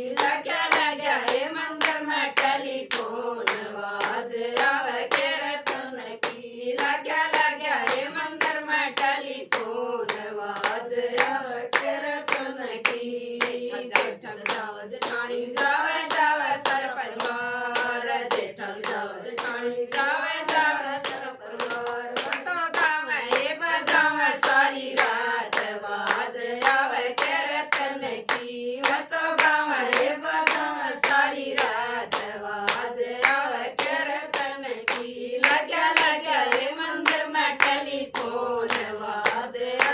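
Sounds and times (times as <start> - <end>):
hand claps: 0.0 - 39.9
women singing devotional song: 0.0 - 39.9.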